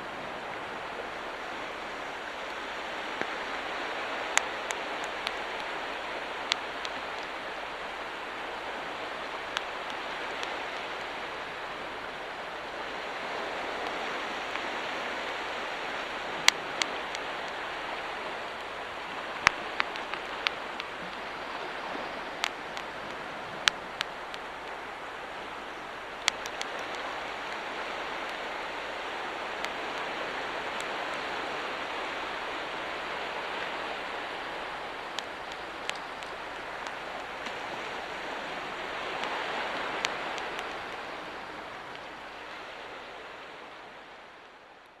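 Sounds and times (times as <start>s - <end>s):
waves washing on beach: 0.0s - 45.0s.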